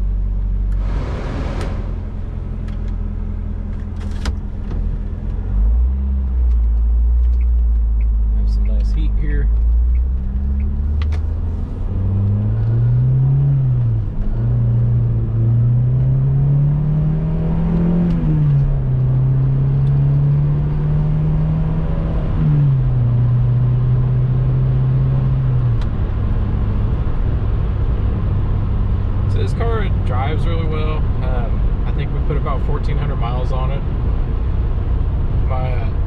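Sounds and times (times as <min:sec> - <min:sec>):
car engine accelerating: 0:00.0 - 0:36.0
road rumble: 0:00.0 - 0:36.0.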